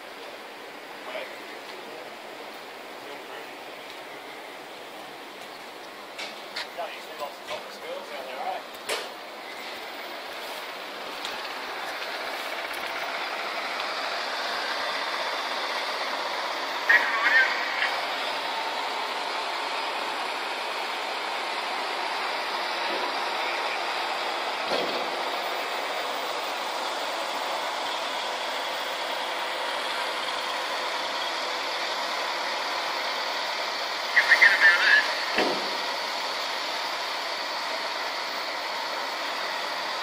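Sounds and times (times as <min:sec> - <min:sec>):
distant engine and traffic noise: 0:00.0 - 0:40.0.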